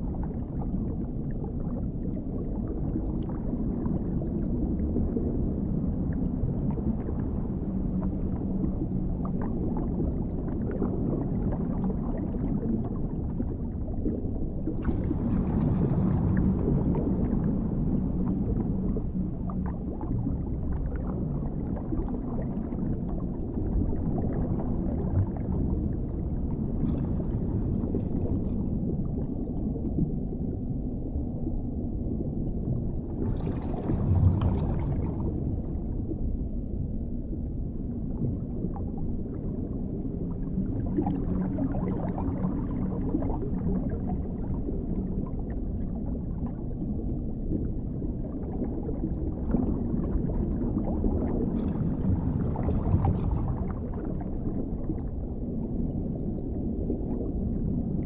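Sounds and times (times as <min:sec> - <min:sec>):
deep muffled underwater rumble: 0:00.0 - 0:58.0.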